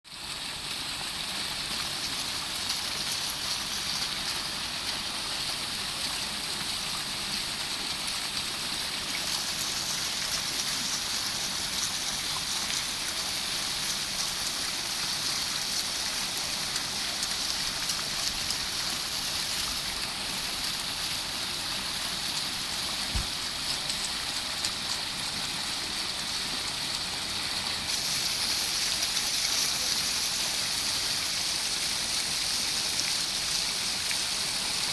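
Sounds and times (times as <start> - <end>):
fountain water splashing: 0.1 - 34.9.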